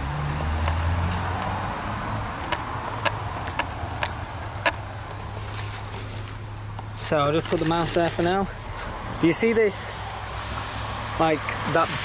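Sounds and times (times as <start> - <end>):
footsteps walking outdoors: 0.0 - 11.4.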